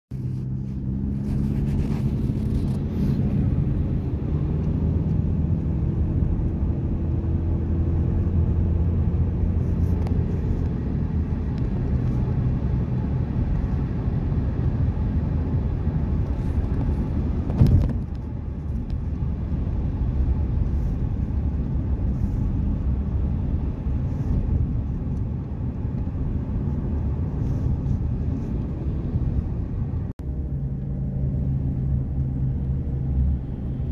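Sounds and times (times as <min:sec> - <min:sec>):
vehicle engine and tyre rumble: 0:00.1 - 0:33.9.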